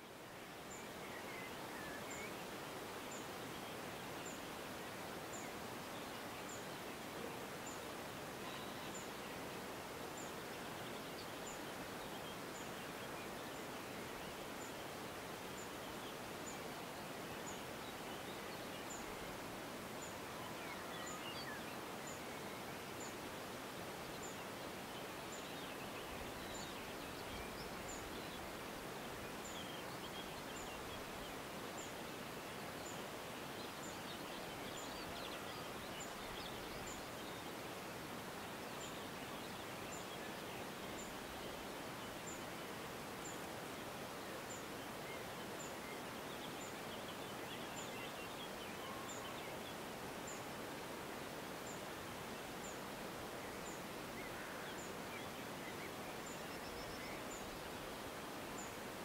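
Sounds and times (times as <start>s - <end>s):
open air hiss: 0.0s - 59.0s.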